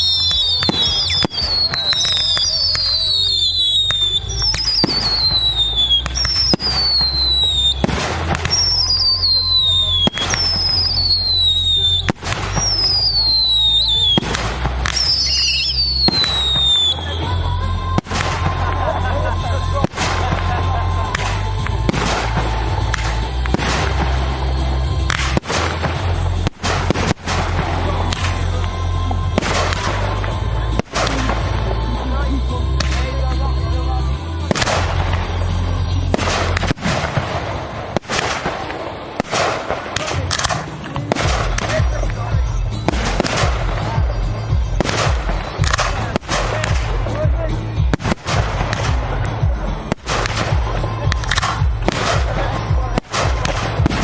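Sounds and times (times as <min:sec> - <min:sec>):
firework bangs: 0:00.0 - 0:31.9, 0:34.4 - 0:54.0
whistling fireworks: 0:00.0 - 0:33.2, 0:34.4 - 0:54.0
music with heavy bass: 0:00.0 - 0:38.6, 0:39.3 - 0:54.0.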